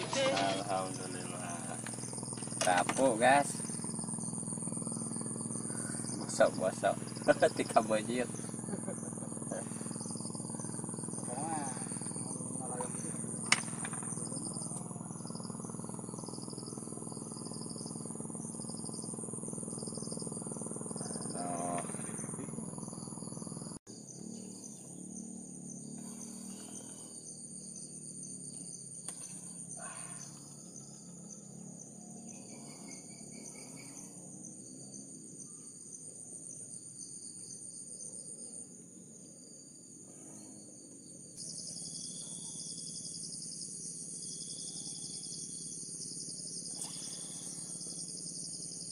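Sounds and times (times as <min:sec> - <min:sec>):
insects shrilling: 0:00.0 - 0:48.9
pulsing chirping: 0:00.0 - 0:48.9.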